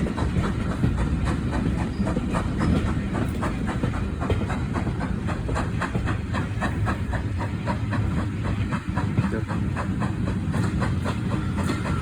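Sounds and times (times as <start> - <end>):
steam train rumbling: 0.0 - 12.0.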